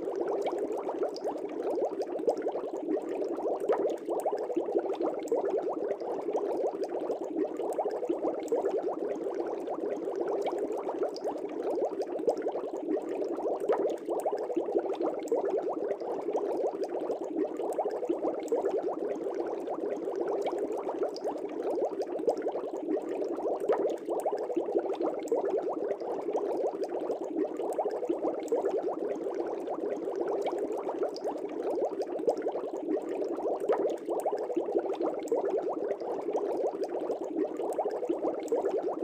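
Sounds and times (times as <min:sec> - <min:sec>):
aquarium air bubbling: 0:00.0 - 0:39.0.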